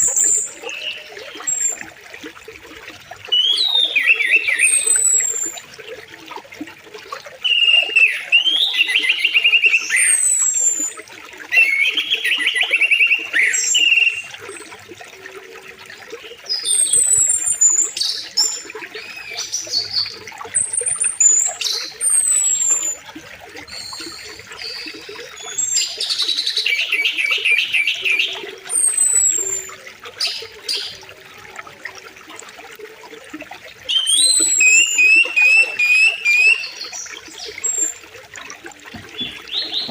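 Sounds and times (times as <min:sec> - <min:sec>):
songbirds singing: 0:00.0 - 0:01.9, 0:03.3 - 0:05.8, 0:07.0 - 0:14.8, 0:16.0 - 0:23.0, 0:23.6 - 0:31.1, 0:33.8 - 0:39.9
river water flowing: 0:00.0 - 0:39.9.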